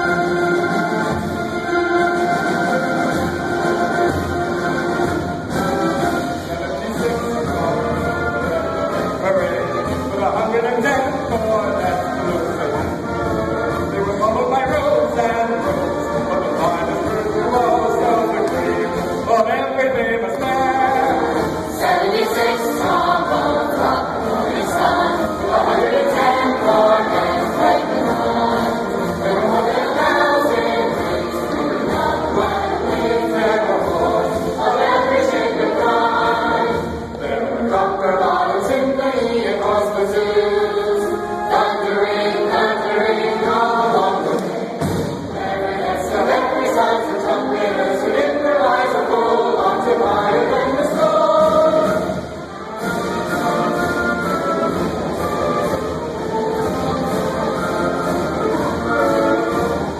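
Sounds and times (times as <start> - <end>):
choir singing: 0.0 - 59.9
school band playing: 0.0 - 59.9.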